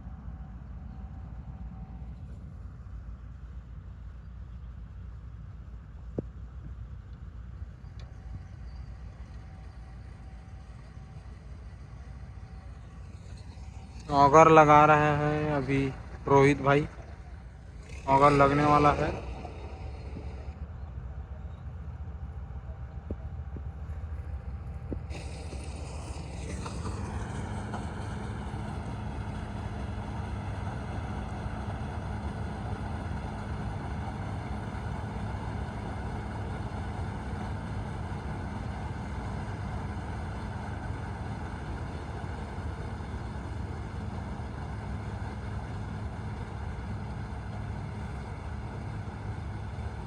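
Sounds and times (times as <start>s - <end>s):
combine harvester engine humming: 0.0s - 50.0s
machinery whine: 0.0s - 50.0s.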